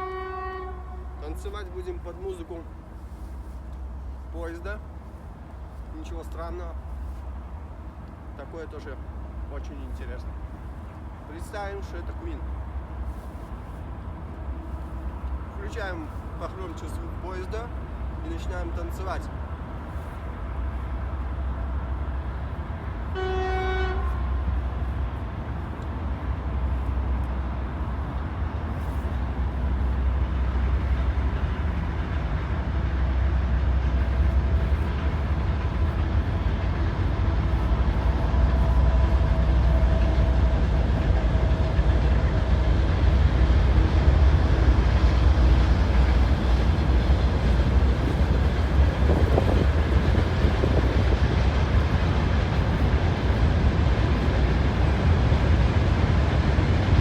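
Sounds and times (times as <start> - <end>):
rail noise: 0.0 - 57.0
train passing: 0.0 - 57.0.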